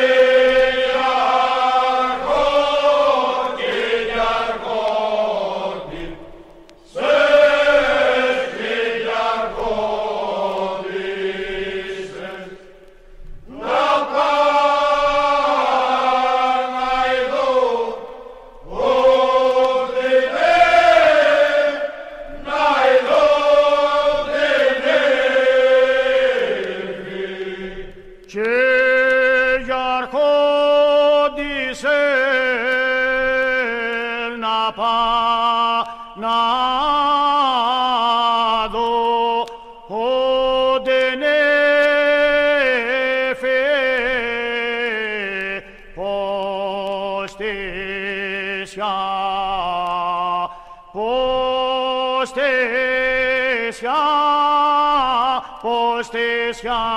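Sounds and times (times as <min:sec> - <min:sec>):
person singing unaccompanied: 0:00.0 - 0:56.9.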